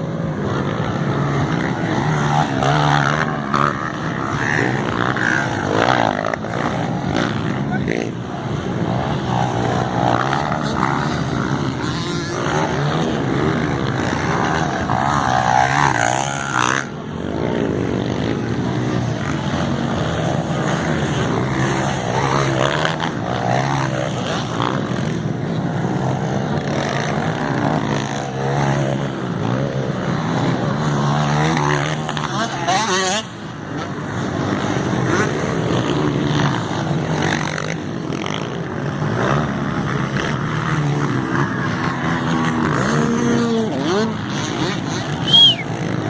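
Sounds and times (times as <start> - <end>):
motocross bikes revving: 0.0 - 46.0.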